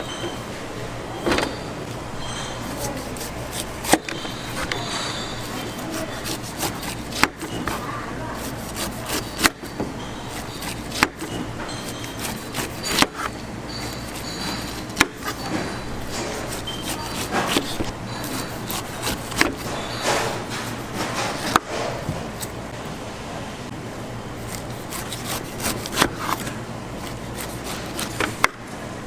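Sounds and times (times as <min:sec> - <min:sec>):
market background noise: 0:00.0 - 0:29.0
knife scraping slicing: 0:02.2 - 0:22.6, 0:24.4 - 0:28.5.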